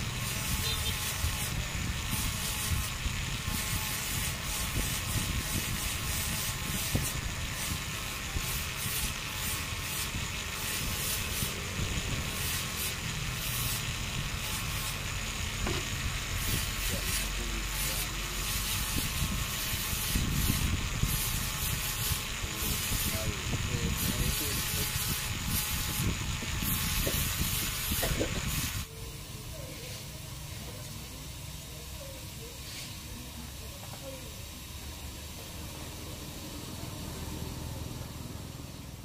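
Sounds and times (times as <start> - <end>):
rotary tool sanding wood: 0.0 - 39.0.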